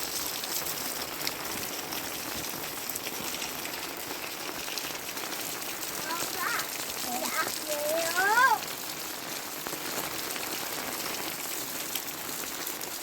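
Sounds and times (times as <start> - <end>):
heavy rain falling: 0.0 - 13.0
raindrop ticks: 0.2 - 13.0.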